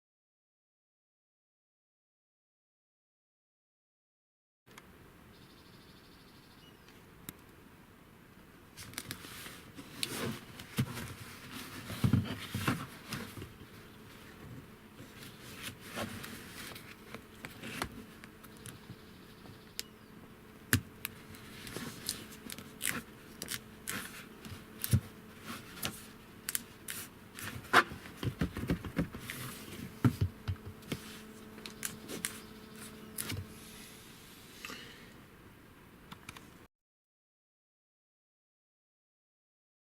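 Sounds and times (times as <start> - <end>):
faint steady hum: 4.7 - 36.7.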